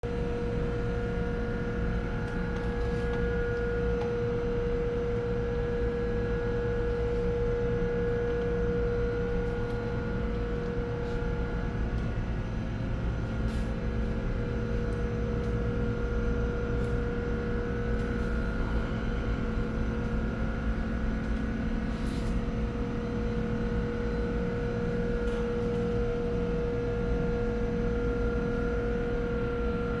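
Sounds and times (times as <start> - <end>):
machinery humming drone: 0.0 - 30.0.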